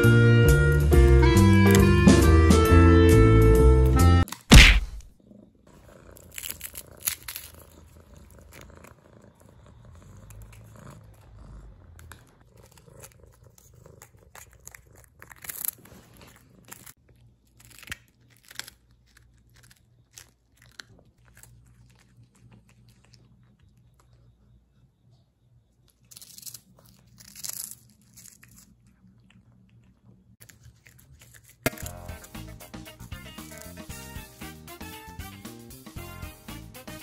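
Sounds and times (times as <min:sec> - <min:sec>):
kitten chewing crunchy fish: 0:00.7 - 0:02.4, 0:04.2 - 0:24.5, 0:25.9 - 0:34.1.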